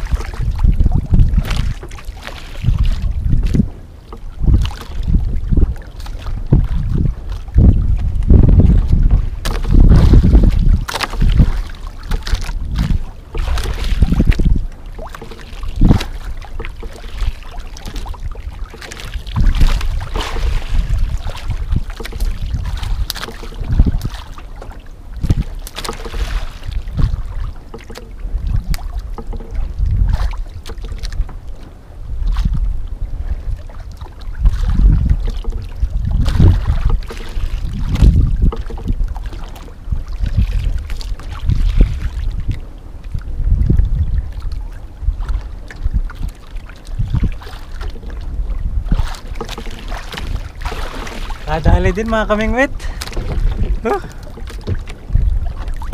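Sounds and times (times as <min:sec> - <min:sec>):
water lapping against boat hull: 0:00.0 - 0:55.9
wind buffeting microphone: 0:00.0 - 0:55.9.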